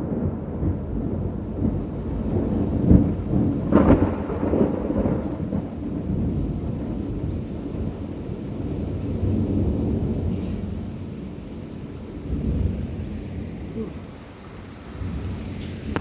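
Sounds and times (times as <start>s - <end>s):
thunder crack: 0.0s - 11.0s, 11.9s - 16.0s
rain: 0.0s - 16.0s
thunder rumbling: 0.0s - 16.0s.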